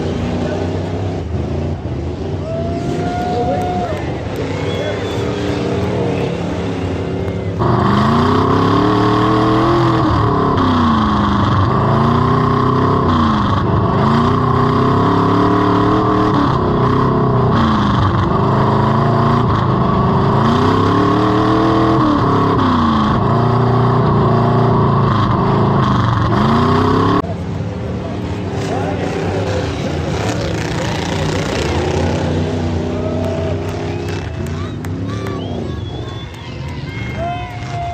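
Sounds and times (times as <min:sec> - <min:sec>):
truck engine revving hard: 0:00.0 - 0:37.9.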